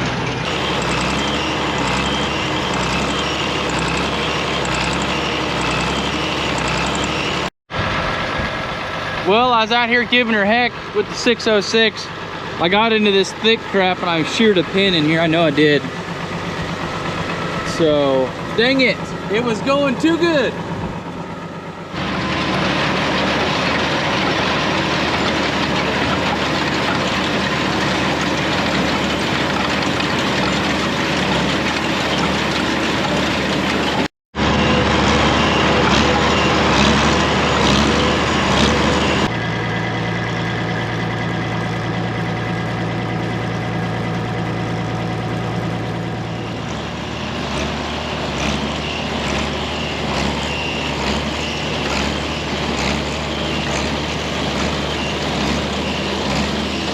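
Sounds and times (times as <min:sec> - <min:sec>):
baler machinery working: 0:00.0 - 0:56.9
tractor engine running: 0:00.0 - 0:56.9.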